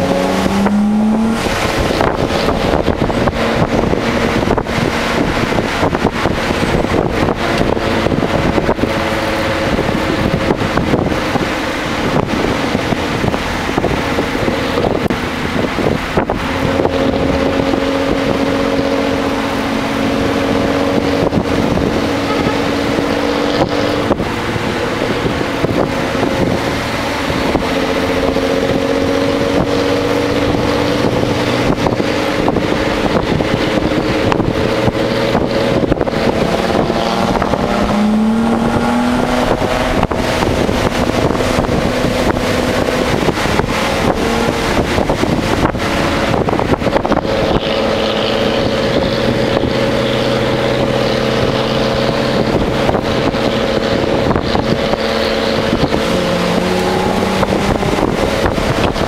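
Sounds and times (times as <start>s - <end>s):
car engine under load: 0.0s - 59.0s
road and wind noise: 0.0s - 59.0s.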